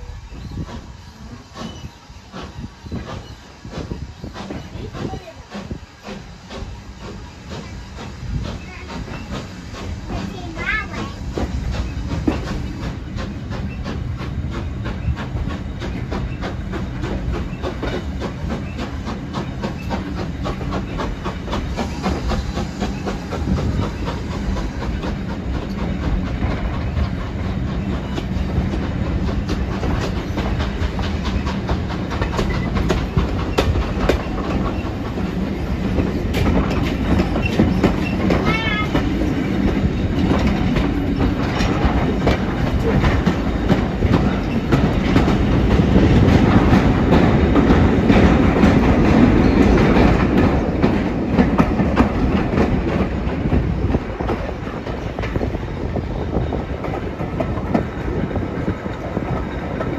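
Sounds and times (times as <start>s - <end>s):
train rumble: 0.0s - 59.9s
wheels clickety-clack: 0.6s - 59.9s.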